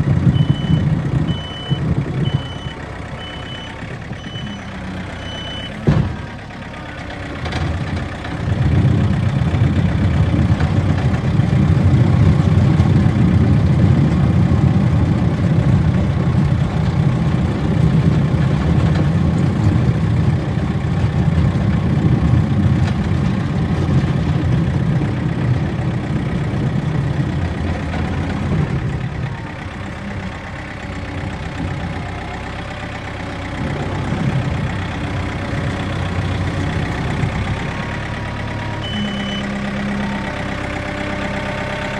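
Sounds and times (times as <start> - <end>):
diesel engine working hard: 0.0 - 41.9.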